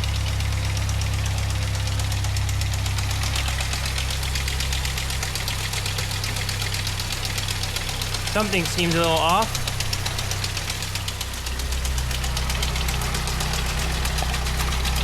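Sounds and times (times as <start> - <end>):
car engine idling with ticking: 0.0 - 15.0.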